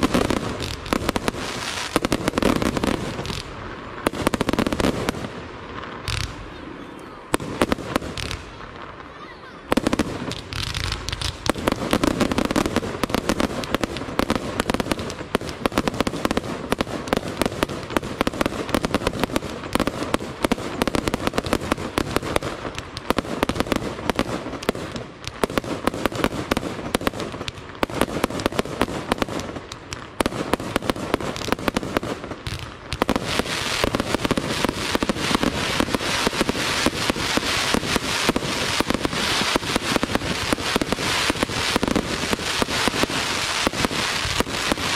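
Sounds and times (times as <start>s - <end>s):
fireworks bursting: 0.0s - 44.9s
hissing crackle of fireworks: 0.0s - 44.9s.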